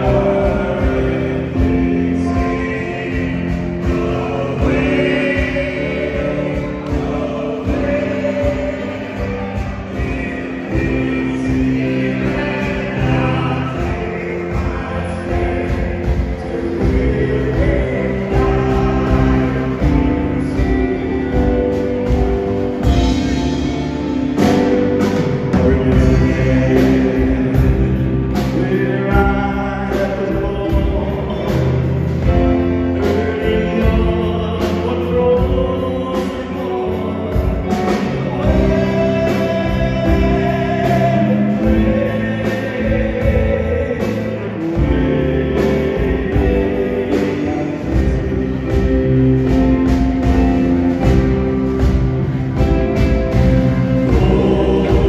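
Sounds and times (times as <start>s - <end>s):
men singing together: 0.0s - 51.9s, 52.6s - 55.0s
live band playing: 0.0s - 55.0s.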